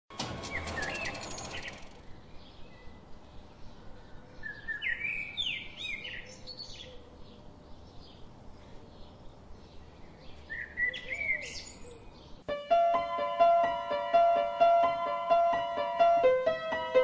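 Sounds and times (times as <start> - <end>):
songbirds singing: 0.5 - 17.0.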